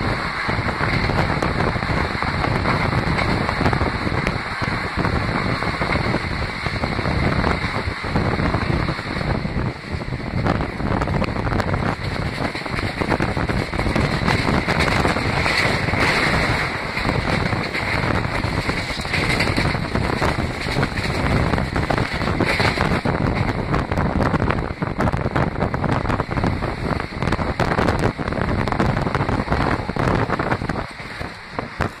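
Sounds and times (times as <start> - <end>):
wheels clattering on rails: 0.0 - 32.0
wind rushing past: 0.0 - 32.0.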